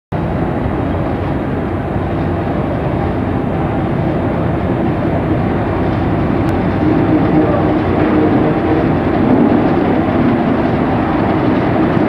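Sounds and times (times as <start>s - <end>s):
diesel locomotive engine idling: 0.2s - 12.0s.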